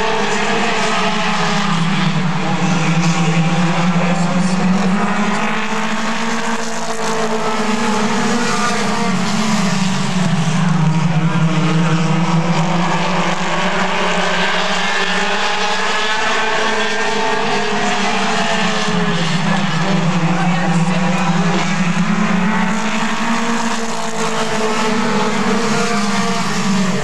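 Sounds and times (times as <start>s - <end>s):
race car engines: 0.0s - 27.0s.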